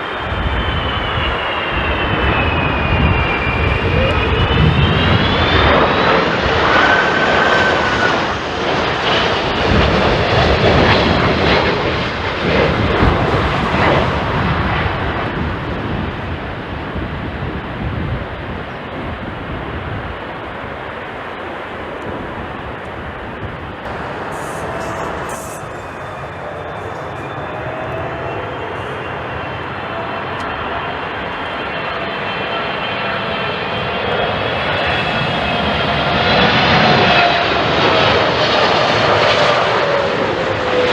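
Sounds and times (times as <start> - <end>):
jet airliner passing: 0.0 - 40.9
jet engine whine: 0.0 - 40.9.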